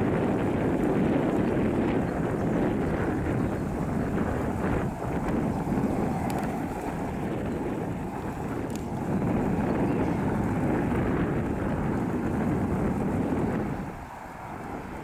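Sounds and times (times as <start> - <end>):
jet engine rumble at takeoff: 0.0 - 15.0.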